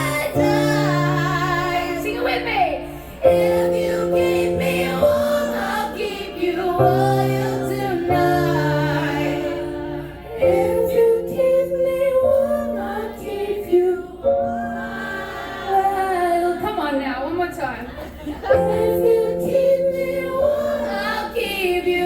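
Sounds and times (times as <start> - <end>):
woman singing: 0.0 - 17.0, 18.5 - 22.0
piano chords: 0.0 - 22.0.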